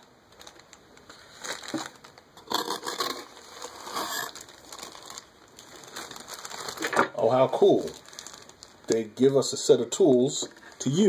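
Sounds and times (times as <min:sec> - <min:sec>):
plastic bag crinkling: 0:00.2 - 0:11.0.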